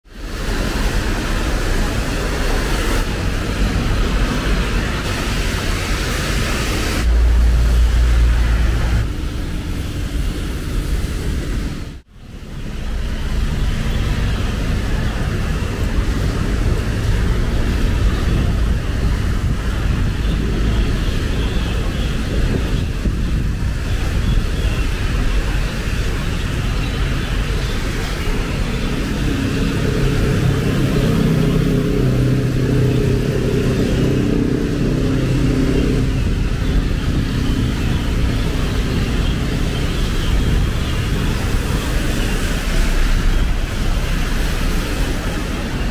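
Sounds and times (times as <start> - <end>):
low traffic rumble: 0.0 - 45.9
tyres hissing on wet road: 0.1 - 45.9.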